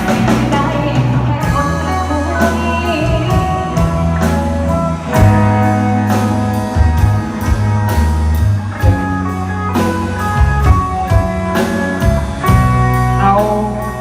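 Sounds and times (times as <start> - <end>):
drum kit: 0.0 - 14.0
guitar: 0.0 - 14.0
low bass notes: 0.0 - 14.0.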